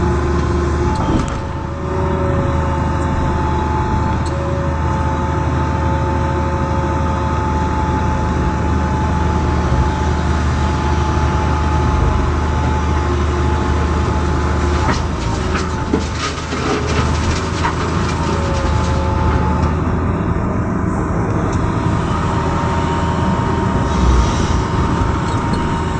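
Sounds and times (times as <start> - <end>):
constant whine: 0.0 - 25.9
diesel engine running under load: 0.0 - 25.9.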